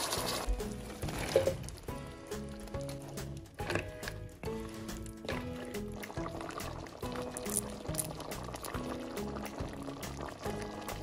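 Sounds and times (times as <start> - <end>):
background music with steady beat: 0.4 - 11.0.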